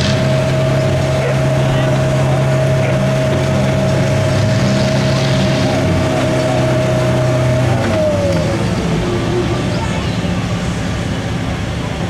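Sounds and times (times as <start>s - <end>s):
buggy engine at high revs: 0.0s - 12.0s.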